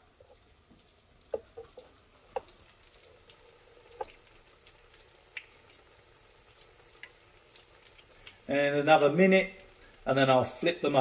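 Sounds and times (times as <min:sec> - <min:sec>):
food deep-frying in hot oil: 0:00.0 - 0:11.0
oil popping and crackling: 0:00.0 - 0:11.0.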